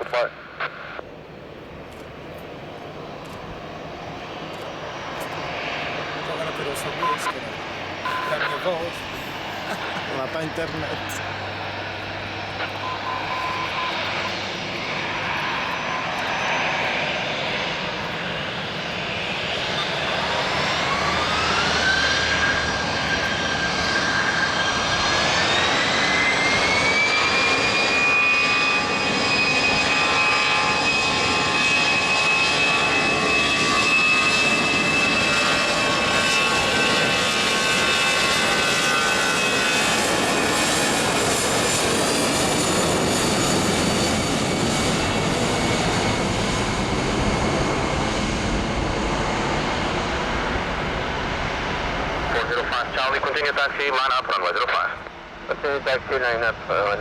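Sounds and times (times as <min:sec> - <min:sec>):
jet engines spooling up: 0:04.1 - 0:54.3.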